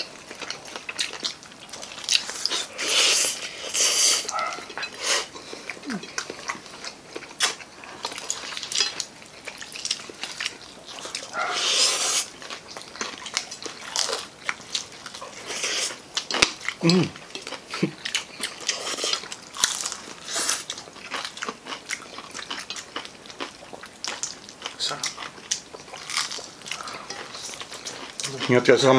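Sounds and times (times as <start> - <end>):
crunching fried chicken: 0.0 - 28.9
wet chewing: 0.0 - 28.9.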